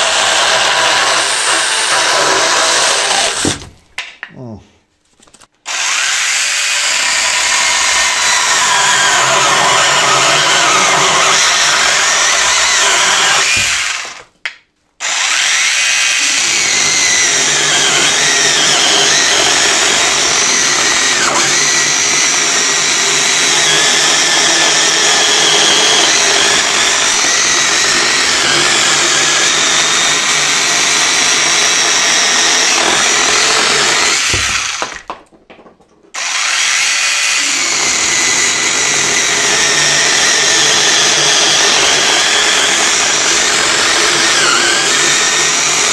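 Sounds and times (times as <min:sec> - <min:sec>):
cordless chainsaw cutting log: 0:00.0 - 0:03.7, 0:05.7 - 0:14.3, 0:15.0 - 0:35.1, 0:36.2 - 0:45.9.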